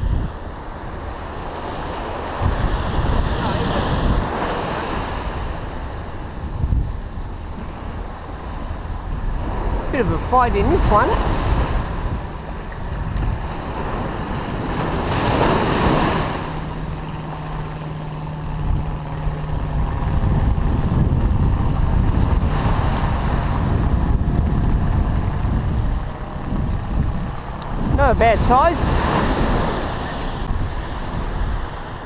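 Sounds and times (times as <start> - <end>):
small waves breaking on sand: 0.0 - 32.0
wind buffeting microphone: 0.0 - 32.0.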